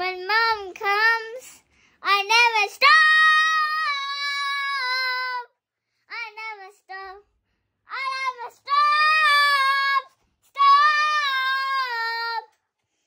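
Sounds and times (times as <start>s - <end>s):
child singing unaccompanied: 0.0s - 7.3s, 7.9s - 12.6s.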